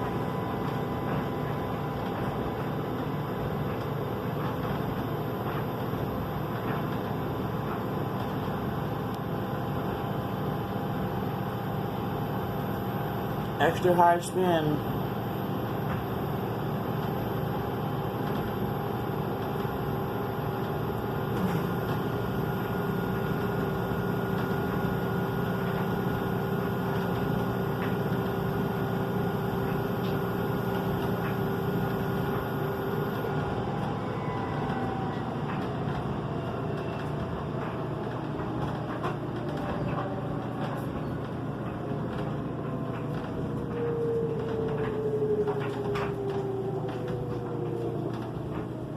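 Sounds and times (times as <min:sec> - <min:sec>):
washing machine motor whine: 0:00.0 - 0:48.9.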